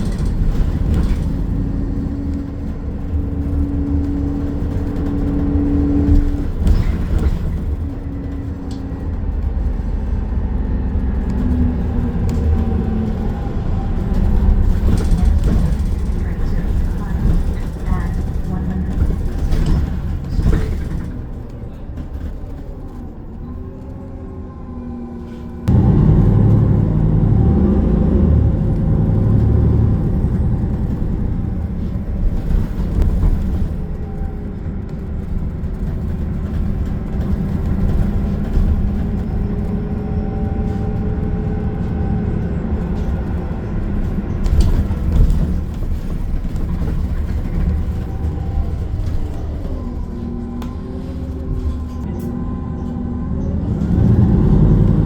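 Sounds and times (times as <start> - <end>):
rattles and knocks: 0.0 - 24.3, 28.7 - 52.1
bus engine and road rumble: 0.0 - 55.0.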